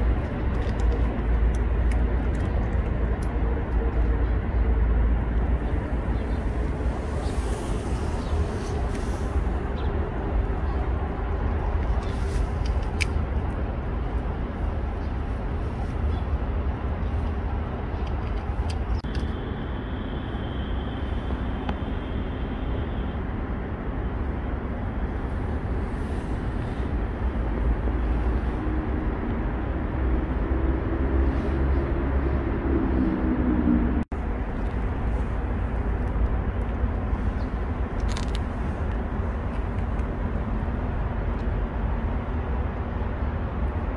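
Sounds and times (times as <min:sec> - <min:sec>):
deep rumble: 0:00.0 - 0:43.9.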